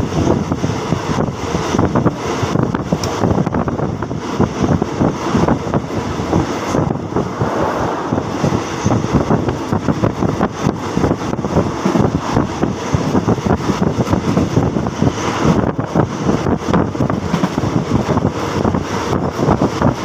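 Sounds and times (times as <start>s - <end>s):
train wheels rumbling on track: 0.0s - 20.0s
wind buffeting microphone: 0.0s - 20.0s.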